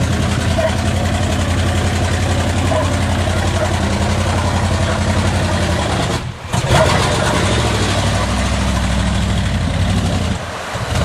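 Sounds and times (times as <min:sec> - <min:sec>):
pickup truck engine running: 0:00.0 - 0:11.0
truck driving through mud and water: 0:00.0 - 0:11.0.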